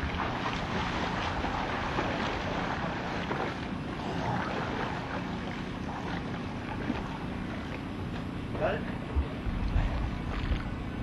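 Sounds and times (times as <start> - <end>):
boat engine rumble: 0.0 - 11.0
water: 0.0 - 11.0.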